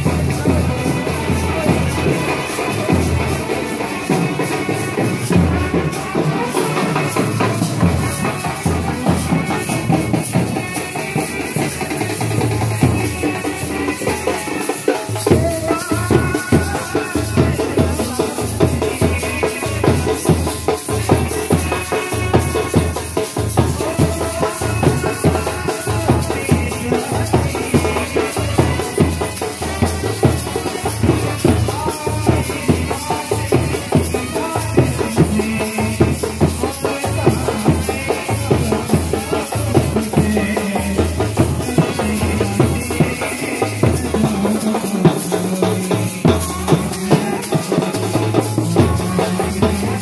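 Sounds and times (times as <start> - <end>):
shaker-like percussion: 0.0 - 50.0.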